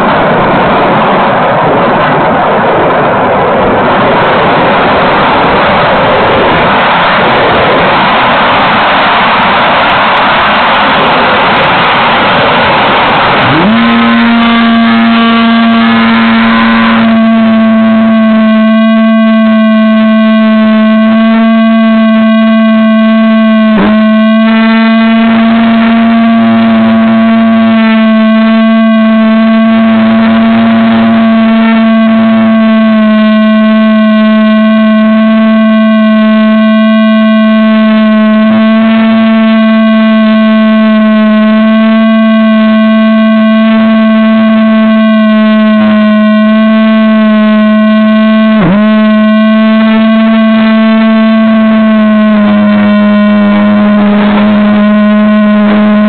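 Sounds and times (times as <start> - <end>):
model plane motor whine: 3.4 - 56.0.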